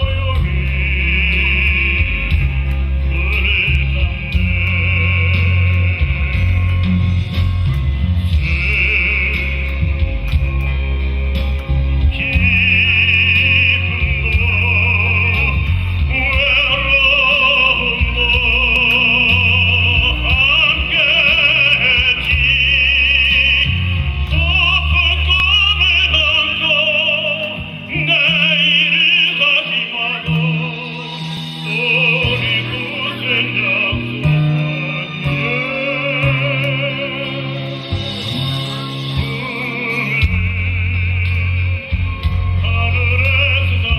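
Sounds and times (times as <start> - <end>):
bass accompaniment: 0.0 - 43.9.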